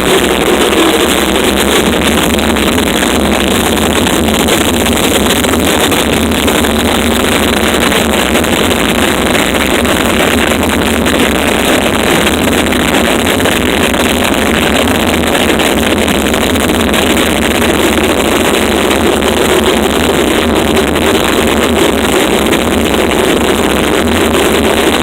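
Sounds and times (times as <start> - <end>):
harsh noise music: 0.0 - 25.0.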